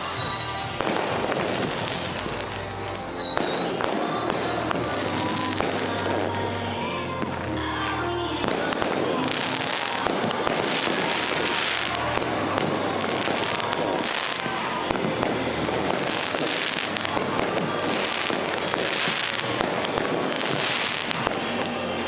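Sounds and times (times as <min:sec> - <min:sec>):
dense crackle of fireworks: 0:00.0 - 0:22.0
fireworks bursting and popping: 0:00.0 - 0:22.0.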